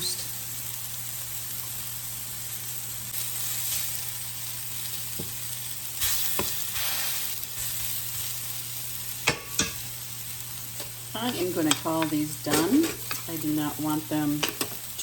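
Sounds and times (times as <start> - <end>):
mushrooms sizzling in a frying pan: 0.0 - 15.0.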